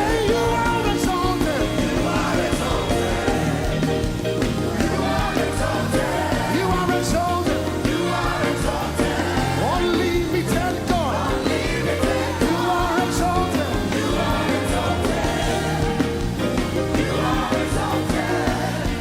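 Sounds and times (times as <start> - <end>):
gospel band playing: 0.0 - 19.0.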